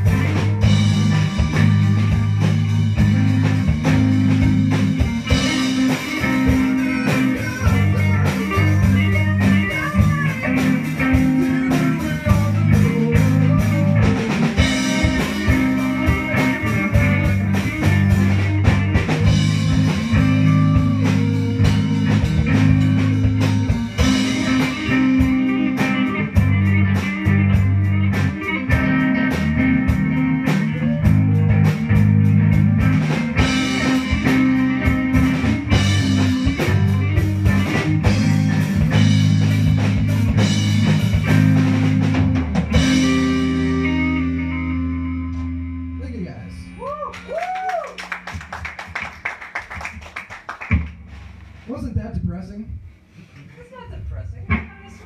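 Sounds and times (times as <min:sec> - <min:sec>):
electric guitars: 0:00.0 - 0:51.8, 0:53.4 - 0:55.0
bass line: 0:00.0 - 0:53.0
drum kit beat: 0:00.0 - 0:55.0.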